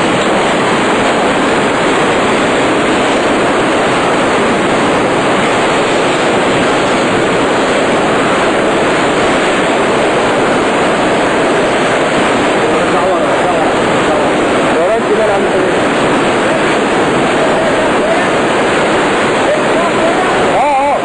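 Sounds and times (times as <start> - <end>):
water churning and frothing: 0.0 - 21.0.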